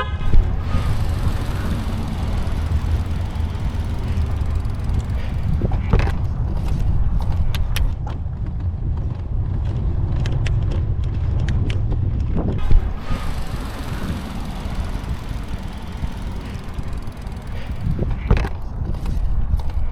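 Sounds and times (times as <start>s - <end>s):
vehicle rumble on road: 0.0s - 19.9s.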